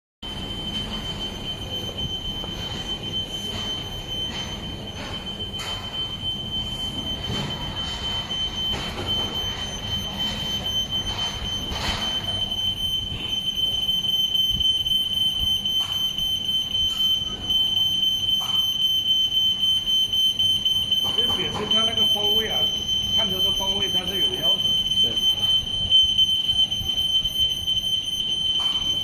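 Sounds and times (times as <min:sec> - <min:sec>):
smoke alarm beeping tone: 0:00.2 - 0:29.0.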